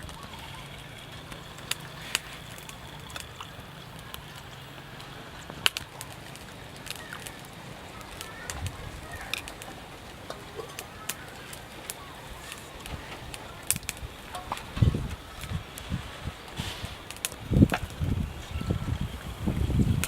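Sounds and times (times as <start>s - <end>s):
faint bird calls: 0.0s - 20.0s
sharp clicks: 1.2s - 18.1s.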